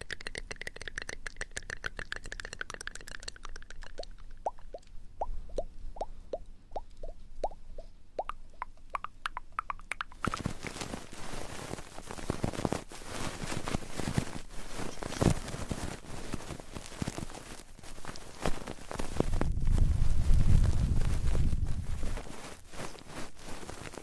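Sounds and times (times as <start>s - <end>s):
crackling rustle on microphone: 0.0s - 24.0s.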